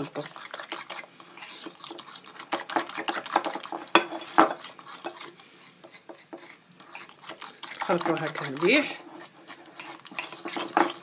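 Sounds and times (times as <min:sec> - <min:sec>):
fork beating batter in bowl: 0:00.0 - 0:11.0.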